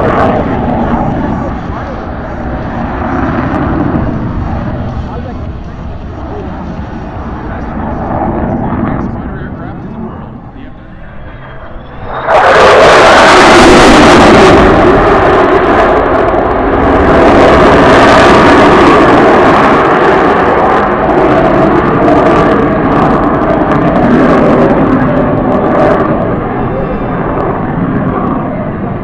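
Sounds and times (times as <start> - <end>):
jet engine roar: 0.0 - 29.0.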